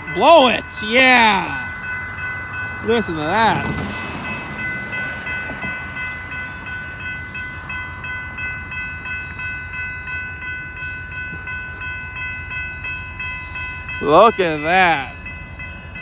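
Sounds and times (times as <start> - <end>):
crossing warning bells ringing: 0.0 - 16.0
train rumble: 0.0 - 16.0.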